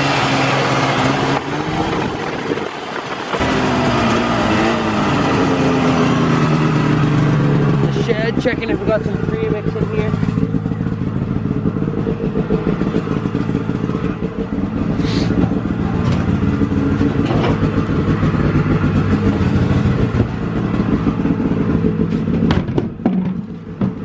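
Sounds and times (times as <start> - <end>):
vehicle engine running steadily: 0.0 - 24.0.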